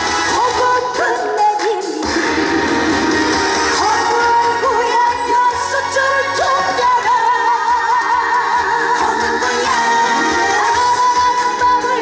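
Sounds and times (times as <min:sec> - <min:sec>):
loud backing music: 0:00.0 - 0:12.0
woman singing into a microphone: 0:00.2 - 0:02.4, 0:03.7 - 0:12.0.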